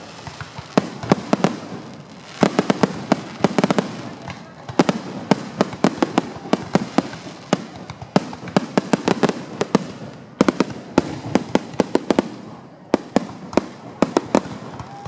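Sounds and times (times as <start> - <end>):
fireworks bangs and pops: 0.0 - 15.0
rumble of distant fireworks bursts: 0.0 - 15.0.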